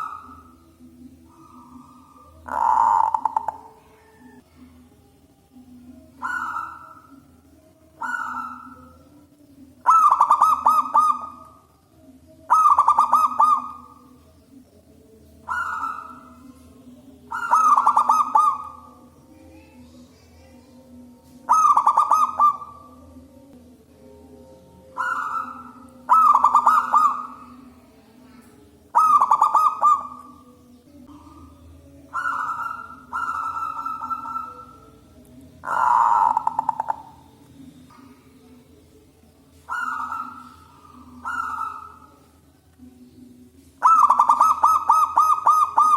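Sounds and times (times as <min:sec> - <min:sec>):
dove cooing: 0:00.0 - 0:04.7, 0:05.8 - 0:11.7, 0:12.4 - 0:14.4, 0:15.2 - 0:19.2, 0:20.8 - 0:23.2, 0:24.7 - 0:38.6, 0:39.5 - 0:42.5, 0:43.8 - 0:45.9.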